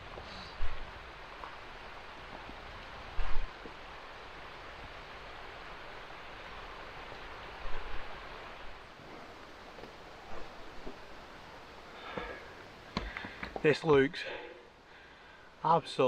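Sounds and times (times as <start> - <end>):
water rushing in a stream: 0.0 - 13.5.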